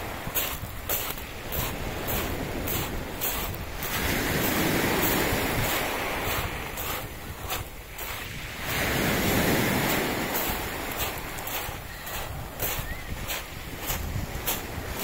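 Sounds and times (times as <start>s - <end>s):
waves washing over pebbles: 0.0s - 15.0s.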